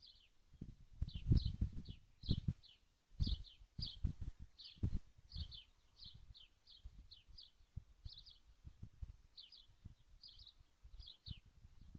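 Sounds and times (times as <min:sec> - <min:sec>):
faint bird chirping: 0:00.0 - 0:11.9.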